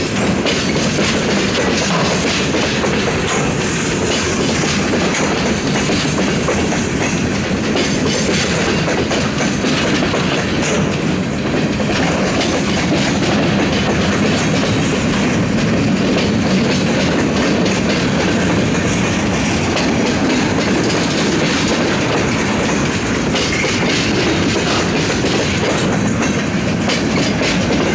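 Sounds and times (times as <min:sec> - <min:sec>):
train wheels clattering on rails: 0:00.0 - 0:27.9.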